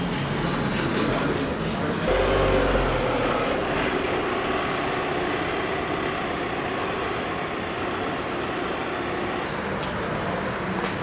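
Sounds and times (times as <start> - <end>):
street traffic: 0.0 - 11.0
vehicle engine running: 2.1 - 11.0.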